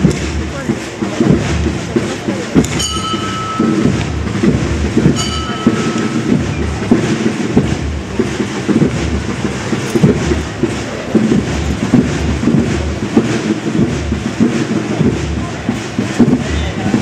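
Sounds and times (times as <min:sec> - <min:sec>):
low drum beat: 0:00.0 - 0:17.0
quick irregular drum knocks: 0:00.0 - 0:17.0.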